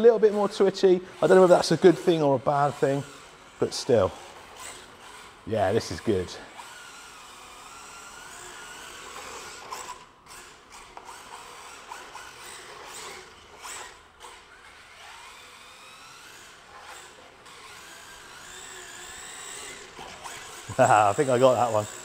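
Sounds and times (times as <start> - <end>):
electric toy car motor whining: 0.0 - 22.0.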